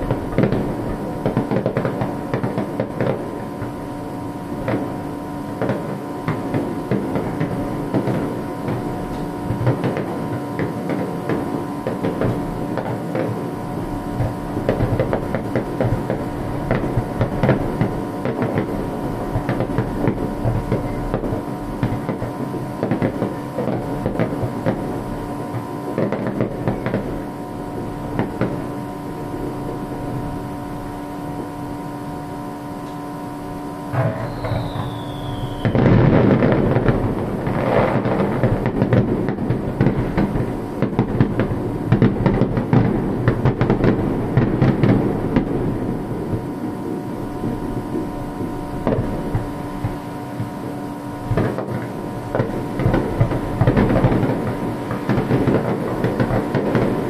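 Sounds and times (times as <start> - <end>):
fireworks bursting and crackling: 0.0 - 57.0
steady low hum: 0.0 - 57.0.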